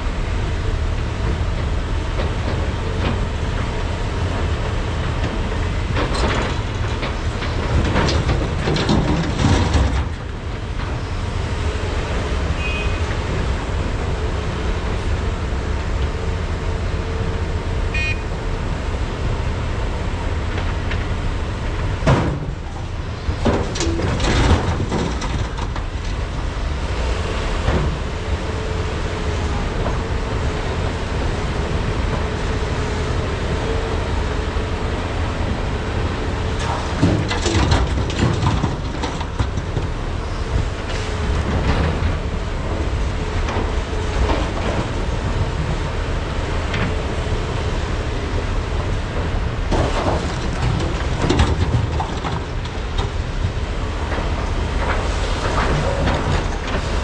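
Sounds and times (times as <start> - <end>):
diesel rumble: 0.0 - 57.0.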